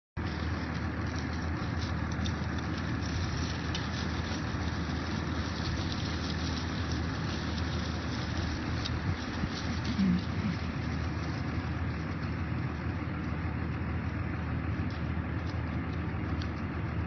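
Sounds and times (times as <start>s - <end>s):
engine idling: 0.2s - 17.0s.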